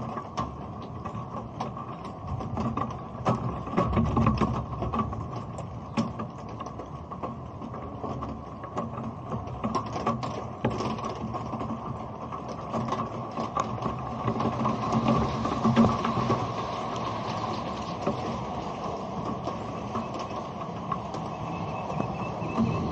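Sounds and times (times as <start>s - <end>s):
muffled rain patter: 0.0s - 22.9s
raindrops ticking on camera: 0.0s - 22.9s.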